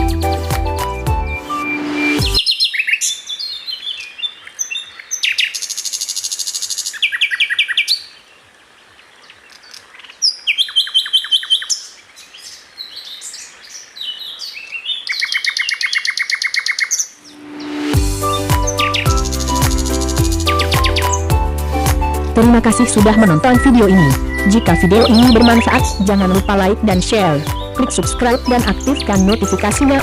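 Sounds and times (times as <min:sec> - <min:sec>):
songbird singing: 0:00.0 - 0:30.0.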